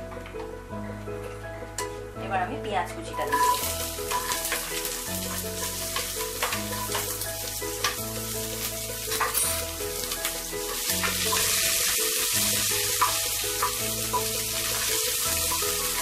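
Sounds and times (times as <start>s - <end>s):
soft background music: 0.0s - 16.0s
onion sizzling in hot oil: 3.1s - 16.0s.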